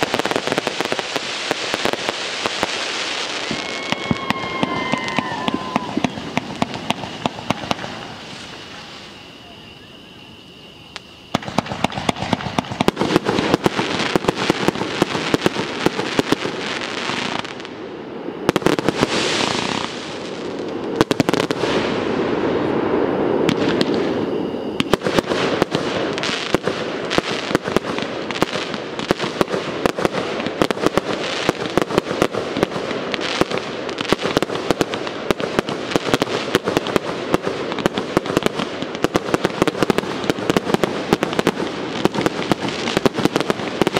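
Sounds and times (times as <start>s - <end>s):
firework hissing: 0.0s - 43.9s
fireworks bangs and crackles: 0.0s - 43.9s.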